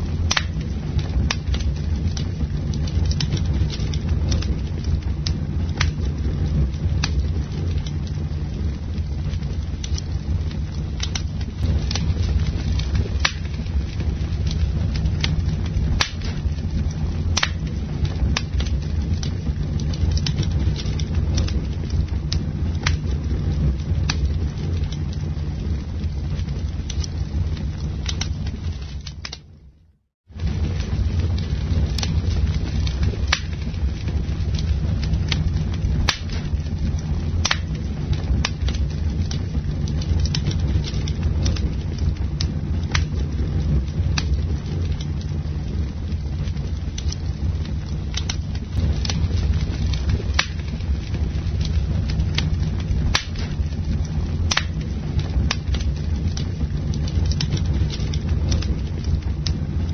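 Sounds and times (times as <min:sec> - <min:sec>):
campfire crackling: 0:00.0 - 0:59.9
low rumble: 0:00.0 - 0:59.9.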